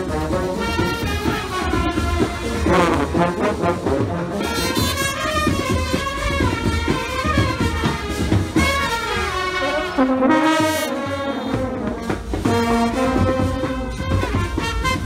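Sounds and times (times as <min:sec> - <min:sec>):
horns playing a melody: 0:00.0 - 0:15.0
steady drum beat: 0:00.0 - 0:15.0.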